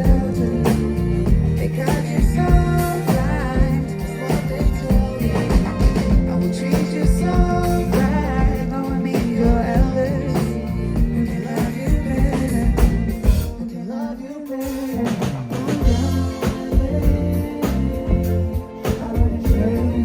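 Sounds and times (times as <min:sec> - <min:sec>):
bass guitar: 0:00.0 - 0:13.7, 0:15.0 - 0:20.0
drums: 0:00.0 - 0:20.0
guitar: 0:00.0 - 0:20.0
person singing: 0:00.0 - 0:20.0.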